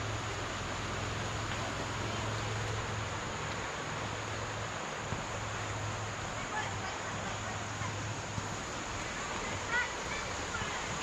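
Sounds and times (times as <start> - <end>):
even hiss: 0.0 - 11.0.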